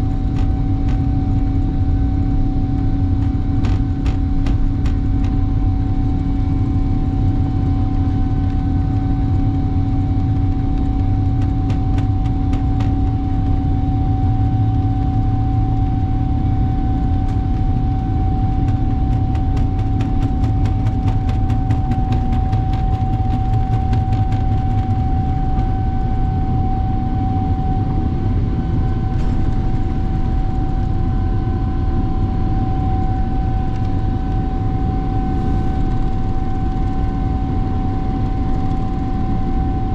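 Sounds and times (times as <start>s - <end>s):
constant hum: 0.0s - 39.9s
jet engine rumble: 0.0s - 39.9s.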